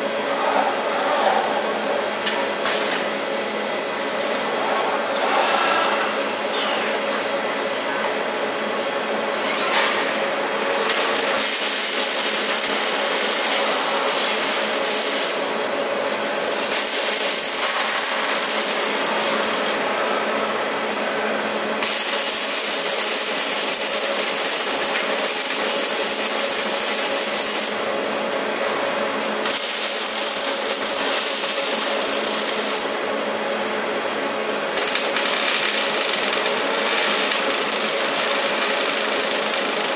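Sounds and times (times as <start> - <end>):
machine hum with tones: 0.0 - 39.9.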